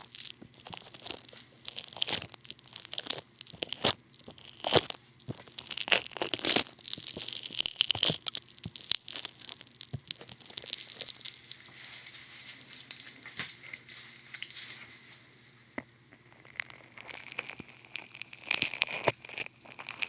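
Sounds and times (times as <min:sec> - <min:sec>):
foam soap crackling on microphone: 0:00.0 - 0:14.9, 0:16.4 - 0:20.0.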